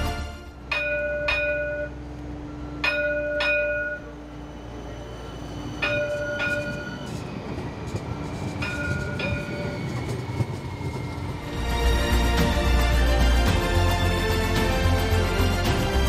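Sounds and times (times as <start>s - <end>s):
streetcar bell ringing: 0.0s - 16.0s.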